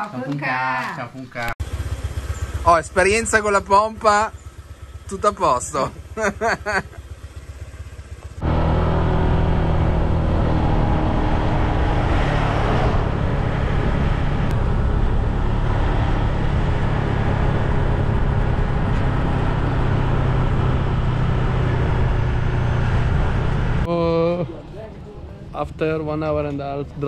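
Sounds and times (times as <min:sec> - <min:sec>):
scooter engine hum: 0:01.2 - 0:27.0
wind and road noise: 0:01.6 - 0:27.0.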